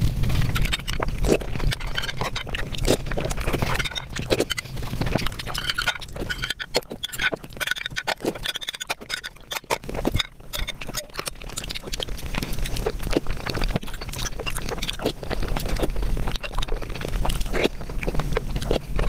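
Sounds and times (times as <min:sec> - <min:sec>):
slurping: 0:00.0 - 0:19.0
wet chewing: 0:00.0 - 0:19.0
lip smacks: 0:00.3 - 0:19.0.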